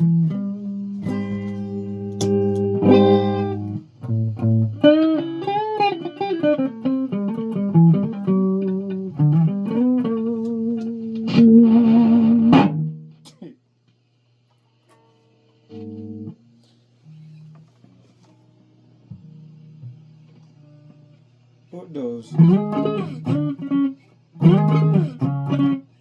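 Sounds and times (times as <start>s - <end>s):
guitar through effects: 0.0s - 13.3s, 14.9s - 21.3s, 22.2s - 26.0s.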